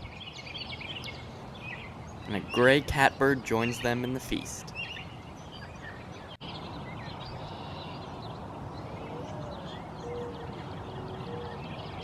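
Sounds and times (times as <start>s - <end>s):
outdoor background noise: 0.0s - 12.0s
songbird chirps: 0.0s - 12.0s.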